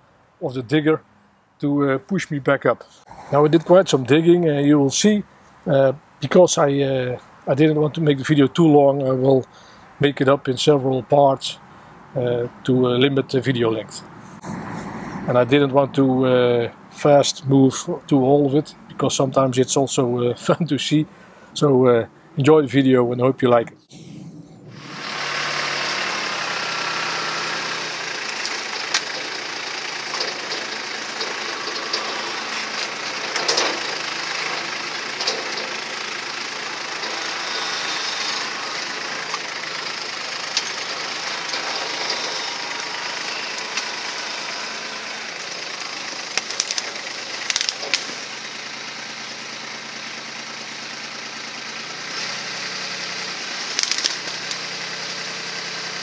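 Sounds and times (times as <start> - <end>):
tractor diesel engine running: 1.8 - 22.4, 24.0 - 56.0.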